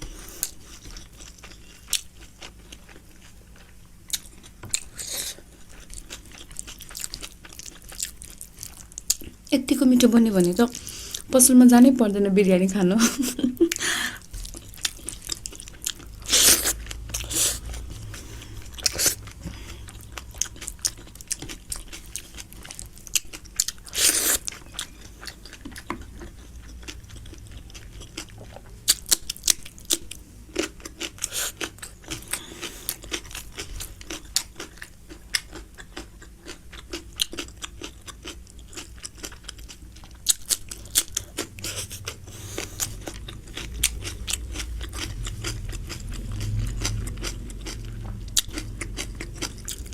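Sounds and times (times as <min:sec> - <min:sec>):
chewing and biting food: 0:00.0 - 0:09.4, 0:13.6 - 0:49.9.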